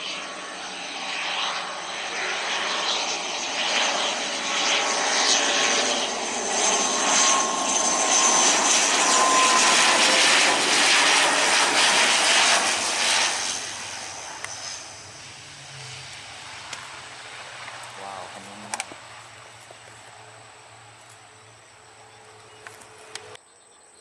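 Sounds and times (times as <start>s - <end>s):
airliner engines passing: 0.0s - 23.4s.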